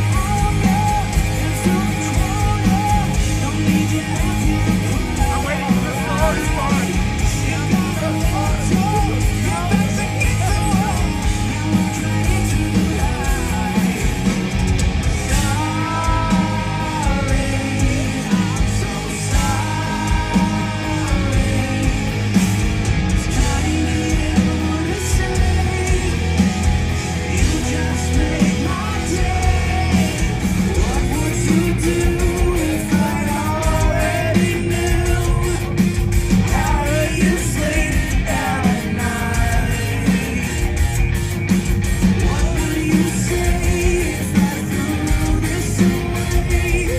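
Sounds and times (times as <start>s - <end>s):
live rock band playing: 0.0s - 46.9s
man singing lead vocals: 0.0s - 46.9s.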